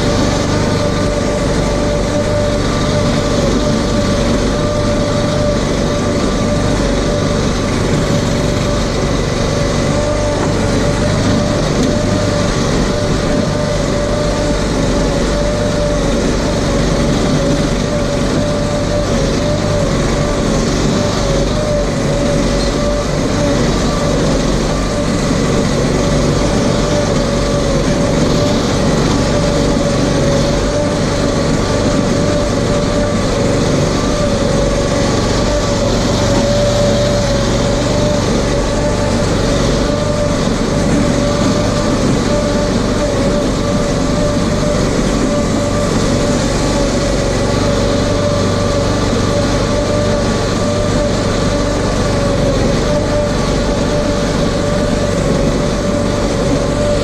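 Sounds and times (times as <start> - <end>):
driving noise: 0.0 - 57.0
off-road vehicle engine running: 0.0 - 57.0.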